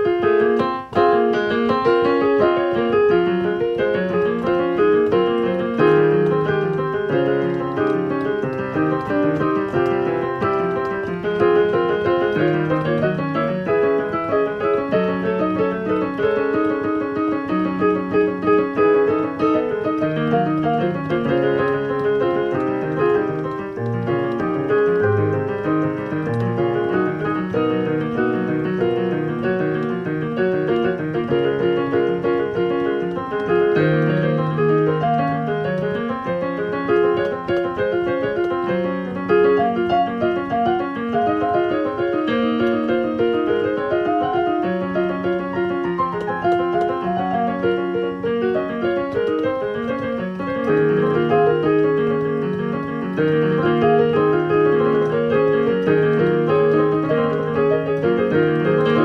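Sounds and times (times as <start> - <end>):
solo piano playing: 0.0 - 59.0.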